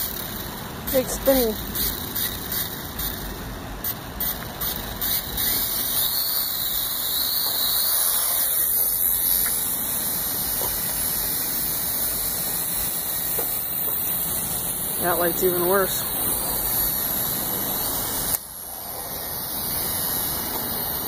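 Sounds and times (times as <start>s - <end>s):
quadcopter motors whirring: 0.0s - 21.0s.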